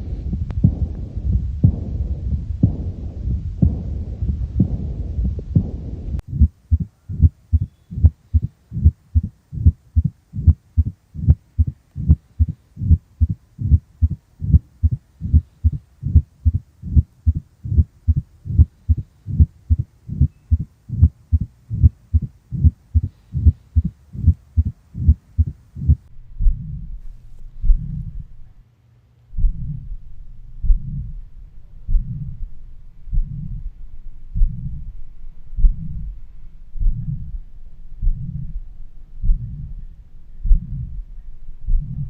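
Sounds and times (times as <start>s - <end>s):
heartbeat: 0.0s - 28.5s, 29.3s - 42.0s.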